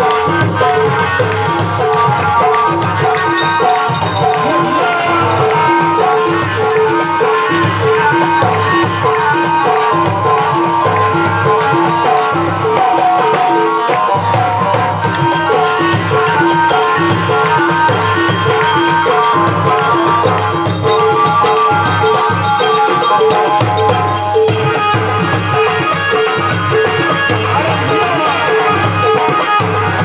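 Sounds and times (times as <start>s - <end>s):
hand drum beat: 0.0s - 30.0s
jingling percussion: 0.0s - 30.0s.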